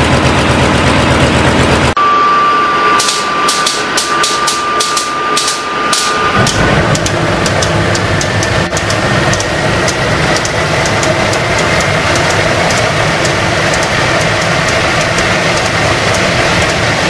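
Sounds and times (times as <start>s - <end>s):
jet engine whine: 0.0s - 17.0s
turbojet engine roaring: 0.0s - 17.0s.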